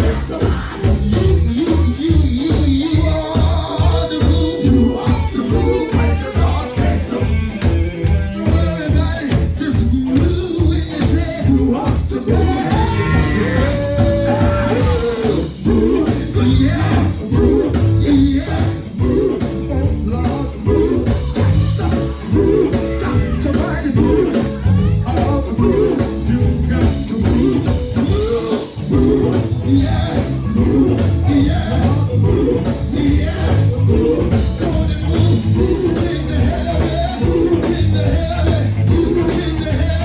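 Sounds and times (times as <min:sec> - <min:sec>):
man singing into microphone: 0:00.0 - 0:07.6, 0:08.3 - 0:40.0
live band playing: 0:00.0 - 0:40.0.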